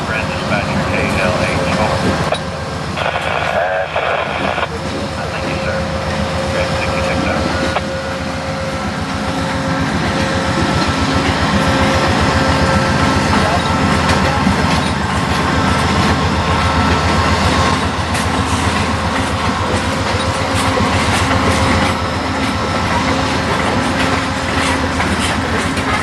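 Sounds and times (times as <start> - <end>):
diesel locomotive engine drone: 0.0 - 26.0
rail equipment clicks and rattles: 0.0 - 26.0.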